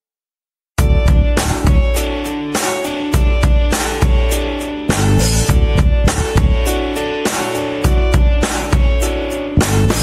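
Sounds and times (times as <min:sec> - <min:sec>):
band music with drums and guitar: 0:00.8 - 0:10.0.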